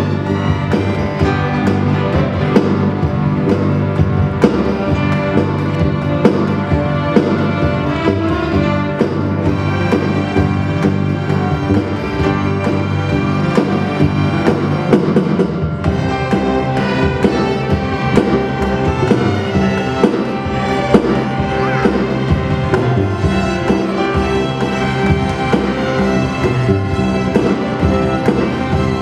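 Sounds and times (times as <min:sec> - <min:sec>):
drum strokes: 0:00.0 - 0:29.0
string orchestra playing chords: 0:00.0 - 0:29.0.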